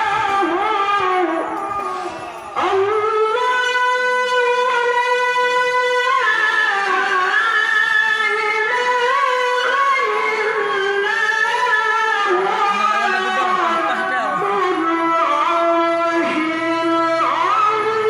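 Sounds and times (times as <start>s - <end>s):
high-voiced melodic recitation: 2.6s - 18.0s.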